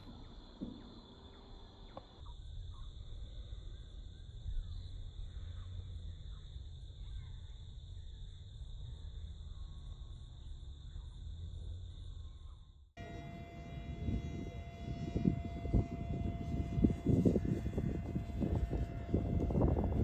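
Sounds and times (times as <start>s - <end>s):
faint chirps: 0.0s - 19.0s
insects buzzing: 0.0s - 20.0s.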